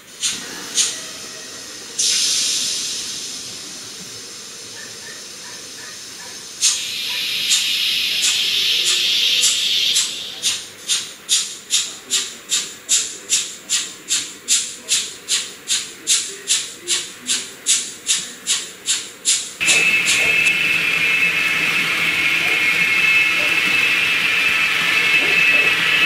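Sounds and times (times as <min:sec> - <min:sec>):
steam locomotive exhaust chuffs: 0:00.0 - 0:26.0.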